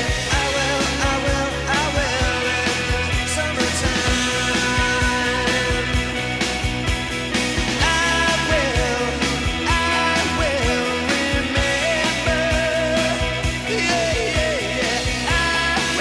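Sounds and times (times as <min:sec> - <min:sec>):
drum beat: 0:00.0 - 0:16.0
rock song: 0:00.0 - 0:16.0
sustained bass: 0:00.0 - 0:16.0.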